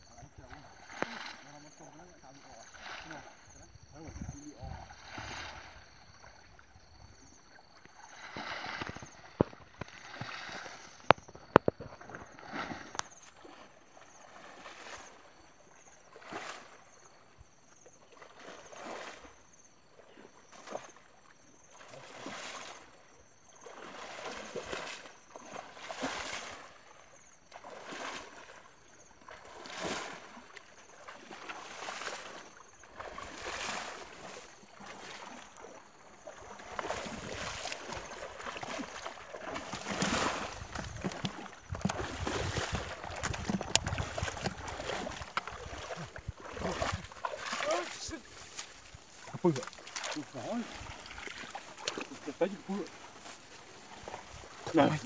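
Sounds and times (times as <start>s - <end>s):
water sloshing and swishing: 0.0s - 55.0s.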